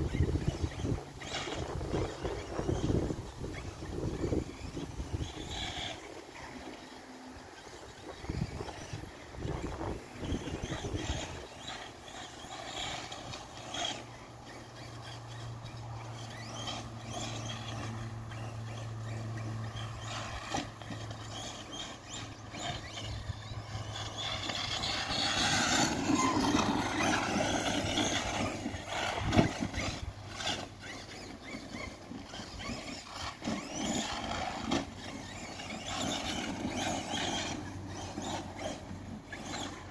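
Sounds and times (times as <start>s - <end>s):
tyres on loose dirt: 0.0s - 39.9s
whining electric motor: 0.0s - 39.9s.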